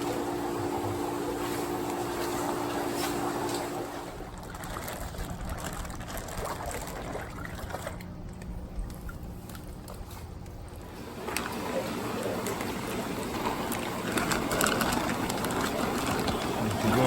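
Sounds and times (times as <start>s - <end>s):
mechanical hum: 0.0s - 17.0s
water trickling and splashing: 0.0s - 17.0s.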